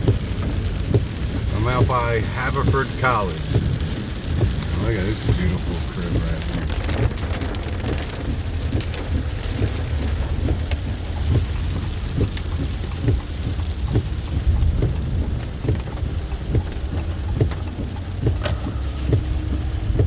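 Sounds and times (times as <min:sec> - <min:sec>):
car driving rumble: 0:00.0 - 0:20.0
rain tapping on a car: 0:00.0 - 0:20.0.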